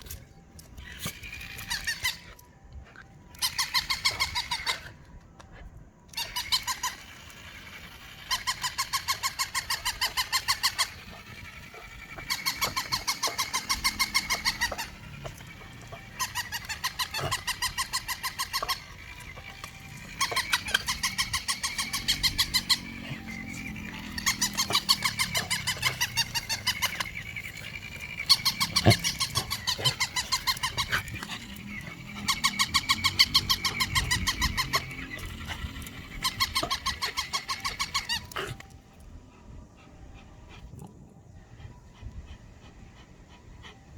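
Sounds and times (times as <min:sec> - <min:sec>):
toy dog squeaky yaps: 0:00.6 - 0:02.5, 0:03.3 - 0:05.4, 0:06.0 - 0:38.7.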